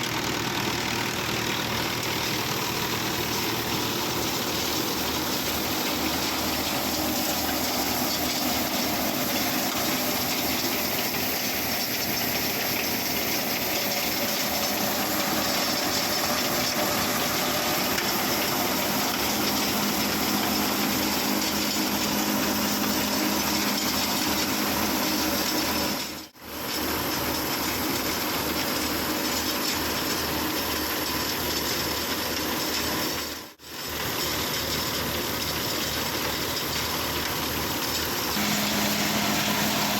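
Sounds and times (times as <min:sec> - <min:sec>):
tractor running a thresher: 0:00.0 - 0:39.9.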